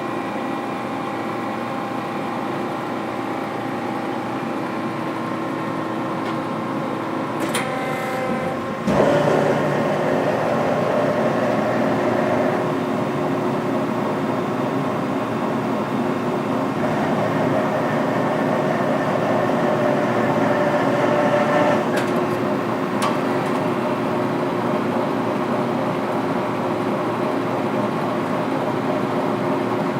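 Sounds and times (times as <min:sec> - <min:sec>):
lathe machine humming: 0:00.2 - 0:25.6.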